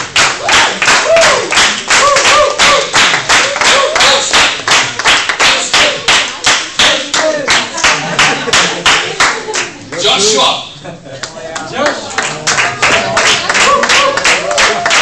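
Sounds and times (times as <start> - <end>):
hand clapping: 0.0 - 9.7, 11.2 - 15.0.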